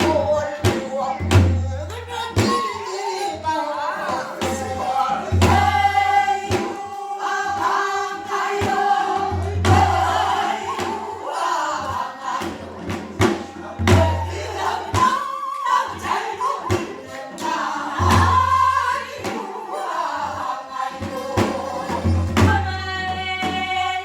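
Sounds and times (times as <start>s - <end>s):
voices singing folk song: 0.0s - 24.0s.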